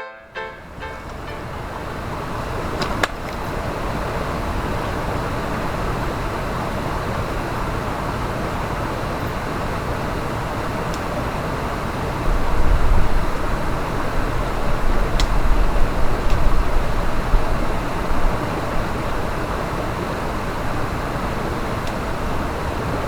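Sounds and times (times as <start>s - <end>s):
stream rushing over rocks: 0.5s - 23.0s.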